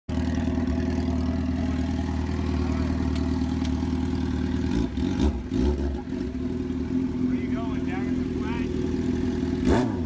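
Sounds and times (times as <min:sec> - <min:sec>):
motorcycle engine idling: 0:00.1 - 0:09.7.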